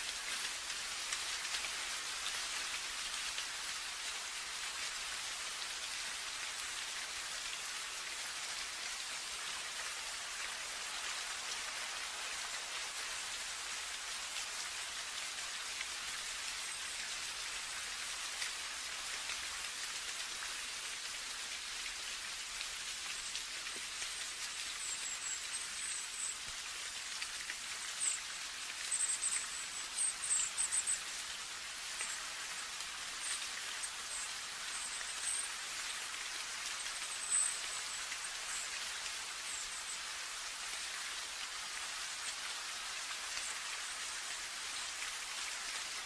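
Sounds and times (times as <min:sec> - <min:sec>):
steady rain patter: 0:00.0 - 0:46.0.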